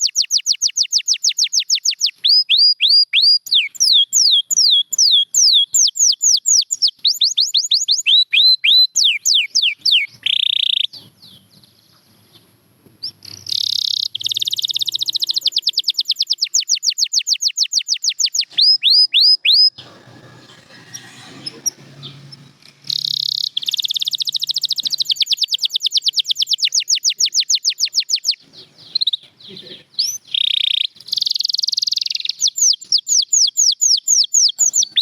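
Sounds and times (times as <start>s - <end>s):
canary singing: 0.0s - 35.0s
faint low background noise: 0.0s - 35.0s.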